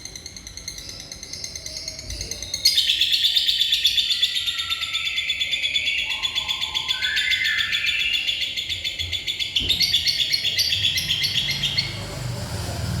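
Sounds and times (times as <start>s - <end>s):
lovebird singing rapid chirps: 0.0s - 12.1s.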